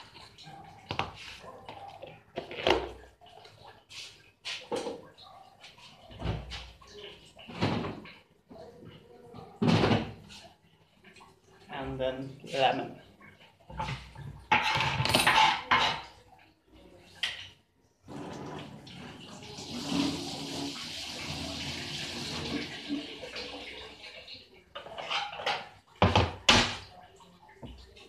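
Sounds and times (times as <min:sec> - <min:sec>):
water running: 0:00.0 - 0:28.0.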